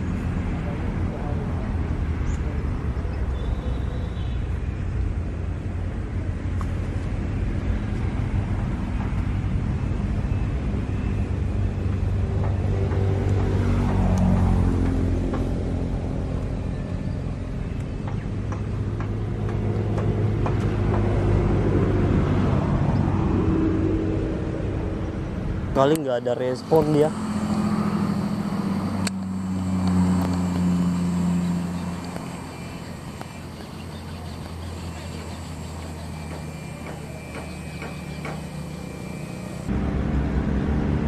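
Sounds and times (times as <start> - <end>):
engine rumbling: 0.0 - 41.0.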